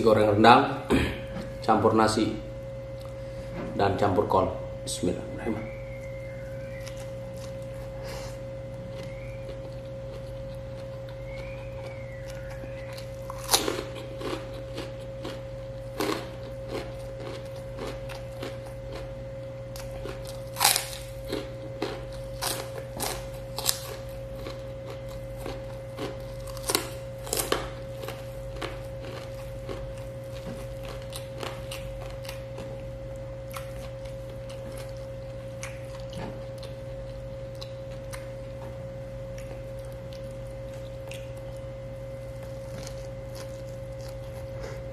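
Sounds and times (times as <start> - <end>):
low hum: 0.0 - 44.9
man chewing and crunching rice: 5.7 - 44.9.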